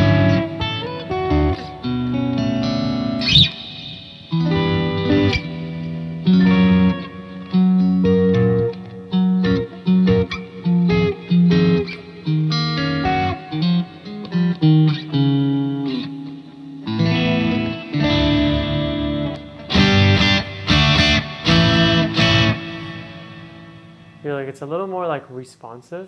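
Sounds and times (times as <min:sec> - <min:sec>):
electric guitar chords: 0:00.0 - 0:24.4.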